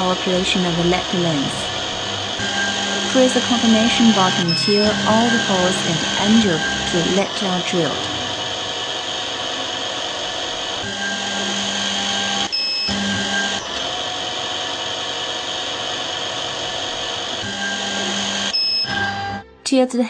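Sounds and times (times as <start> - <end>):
drilling machine spindle whine: 0.0 - 19.4.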